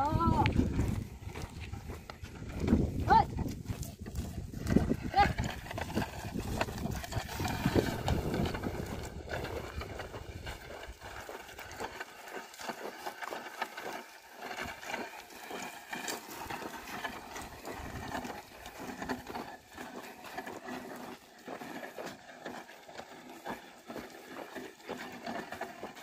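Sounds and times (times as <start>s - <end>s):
hoof steps and footfalls: 0.0s - 26.0s
plough scraping earth: 0.0s - 26.0s.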